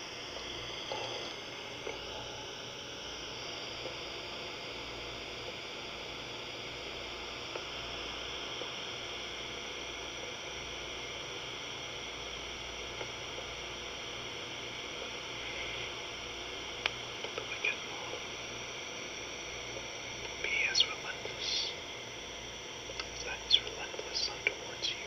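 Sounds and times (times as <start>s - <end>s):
tape hiss: 0.0s - 25.0s.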